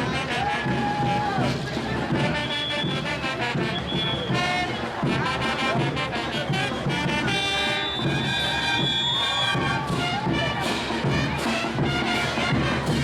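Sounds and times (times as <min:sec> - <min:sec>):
brass band playing parade music: 0:00.0 - 0:13.0.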